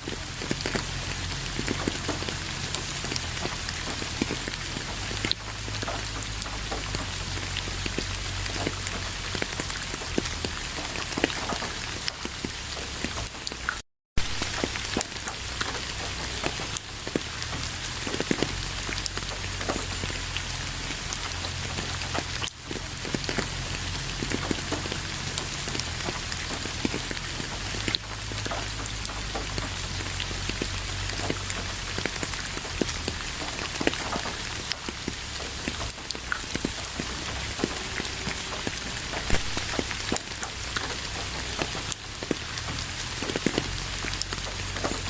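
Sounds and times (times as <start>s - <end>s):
raindrops ticking close by: 0.0s - 45.0s
steady rain falling: 0.0s - 45.0s.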